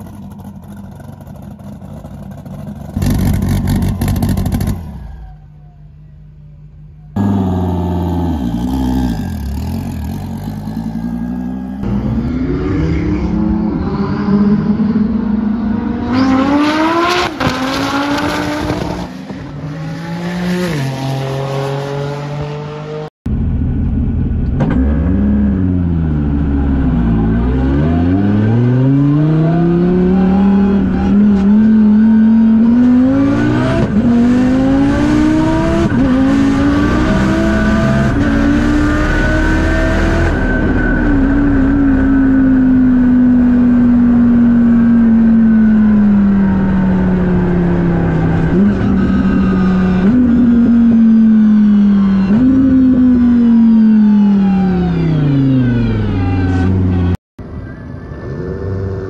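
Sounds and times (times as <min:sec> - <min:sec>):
car engine accelerating hard: 0:07.2 - 0:57.1.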